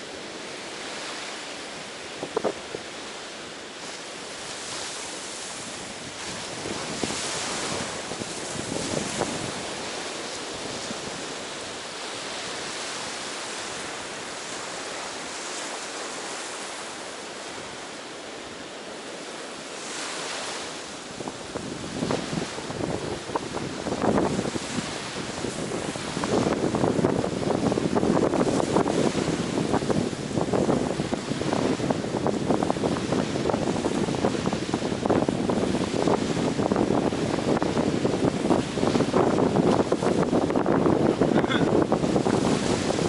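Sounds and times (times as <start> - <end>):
ocean surf breaking on beach: 0.0 - 43.0.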